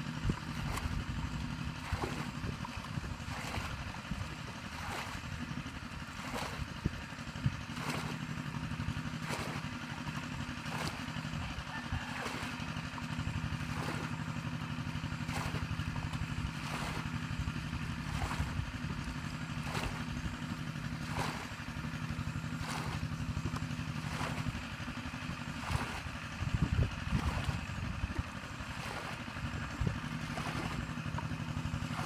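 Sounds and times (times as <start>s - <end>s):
low engine hum: 0.0s - 32.0s
water splashing from bucket: 0.0s - 32.0s.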